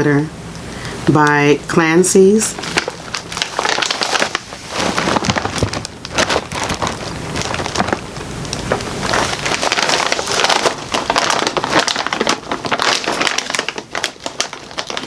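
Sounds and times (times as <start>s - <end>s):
plastic snack bag crinkling: 2.5s - 15.0s.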